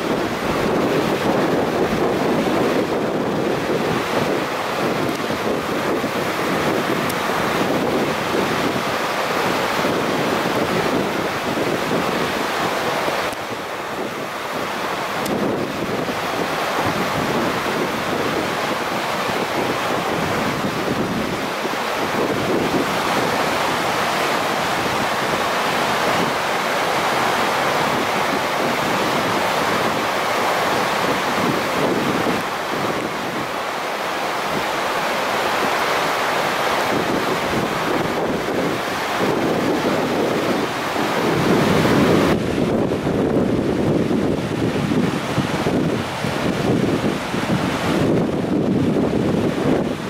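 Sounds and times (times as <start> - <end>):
floodwater rushing: 0.0 - 50.0
wind buffeting microphone: 0.0 - 50.0.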